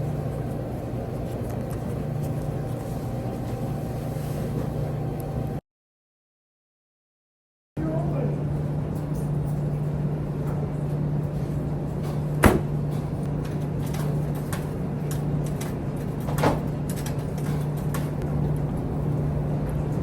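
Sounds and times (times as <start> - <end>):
low machine hum: 0.0 - 5.6, 7.8 - 20.0.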